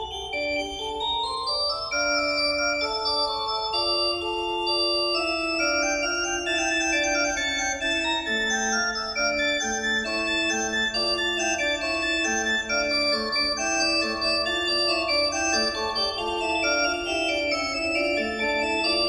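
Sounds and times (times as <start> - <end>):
electronic organ melody: 0.0 - 19.0.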